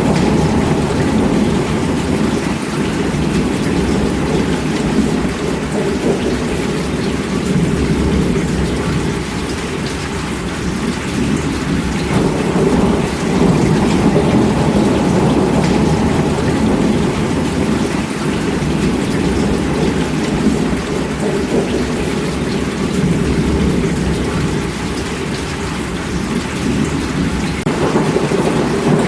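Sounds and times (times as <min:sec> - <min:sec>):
heavy rain: 0:00.0 - 0:29.0
low rumble of thunder: 0:00.0 - 0:29.0.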